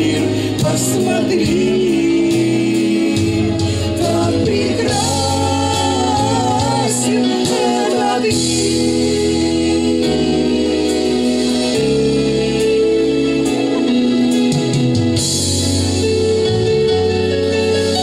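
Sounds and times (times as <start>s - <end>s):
bass line: 0.0s - 18.0s
keyboard chords: 0.0s - 18.0s.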